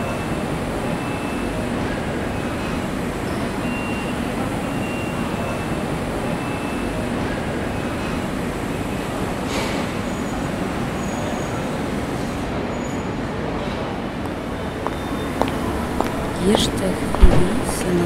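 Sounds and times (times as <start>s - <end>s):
rumble of trains and traffic: 0.0s - 18.0s.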